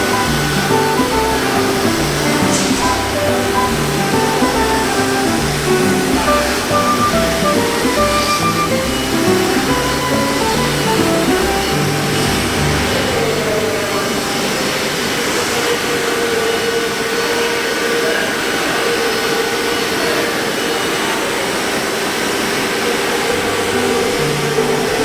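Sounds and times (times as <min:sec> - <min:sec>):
milling machine cutting wood: 0:00.0 - 0:25.0.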